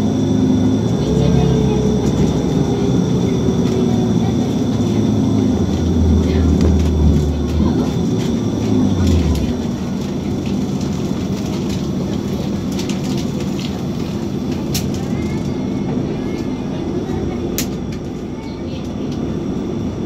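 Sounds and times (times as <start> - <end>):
bus road and body noise: 0.0 - 20.0
engine low drone: 0.0 - 20.0.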